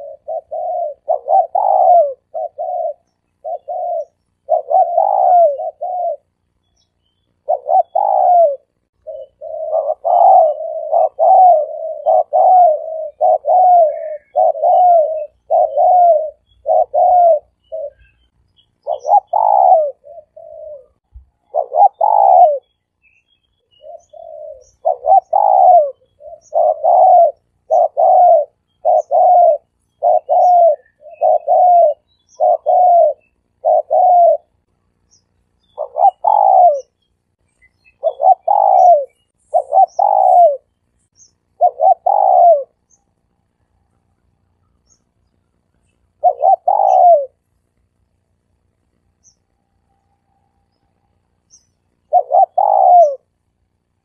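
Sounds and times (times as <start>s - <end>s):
dove cooing: 0.0s - 22.7s, 23.7s - 35.0s, 35.6s - 37.0s, 37.8s - 47.5s, 51.2s - 54.0s.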